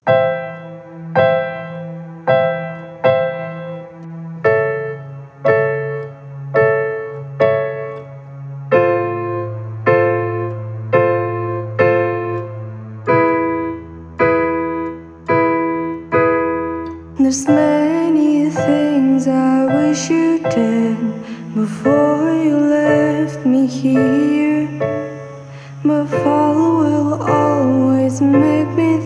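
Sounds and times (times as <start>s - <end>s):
held piano bass notes: 0.0s - 29.0s
piano chords: 0.0s - 29.0s.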